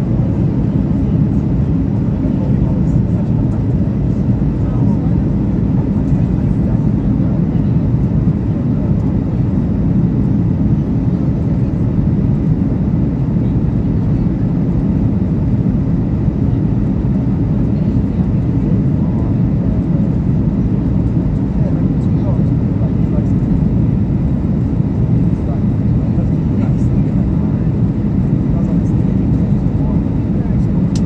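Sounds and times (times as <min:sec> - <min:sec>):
jet engines rumbling: 0:00.0 - 0:31.0.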